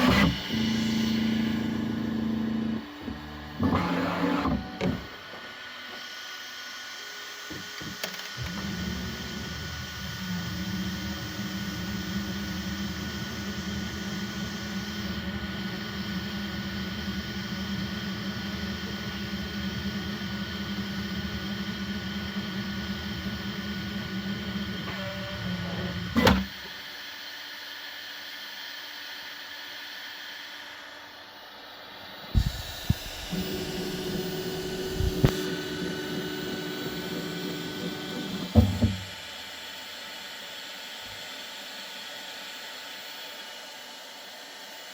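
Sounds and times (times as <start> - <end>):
printer motors and fans humming: 0.0 - 27.2, 31.9 - 41.6.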